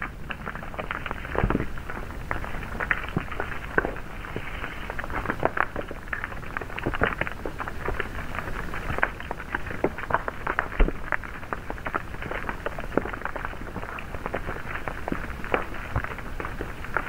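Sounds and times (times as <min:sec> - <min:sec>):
dense irregular crackling: 0:00.0 - 0:17.0.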